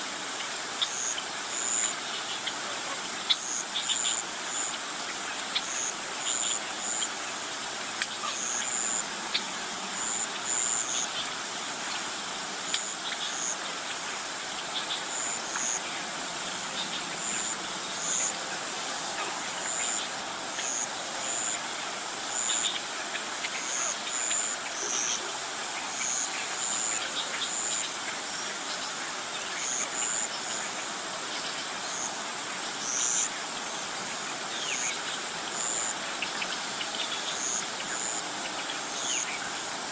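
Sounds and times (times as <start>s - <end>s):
steady high insect hiss: 0.0s - 39.9s.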